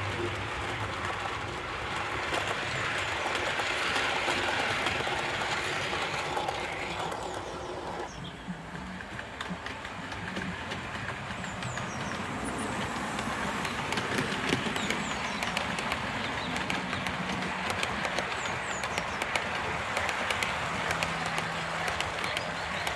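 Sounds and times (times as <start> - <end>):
model train motor hum: 0.0 - 22.9
wheels clicking on rails: 0.0 - 22.9.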